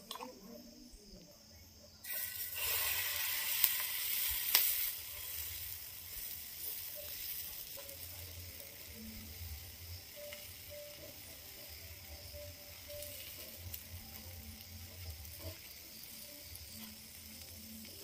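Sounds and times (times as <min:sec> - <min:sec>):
batter sizzling in a pan: 0:02.0 - 0:18.0.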